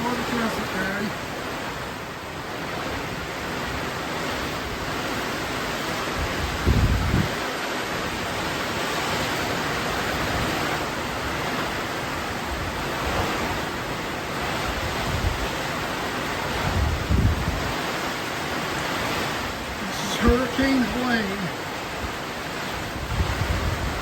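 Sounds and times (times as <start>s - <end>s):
gusts buffeting microphone: 0.0s - 24.0s
wind and rain roaring: 0.0s - 24.0s.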